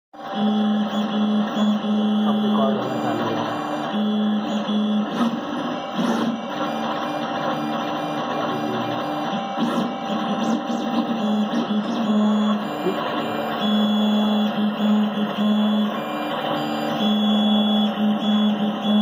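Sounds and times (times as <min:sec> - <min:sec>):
stepper motors whining: 0:00.2 - 0:19.0.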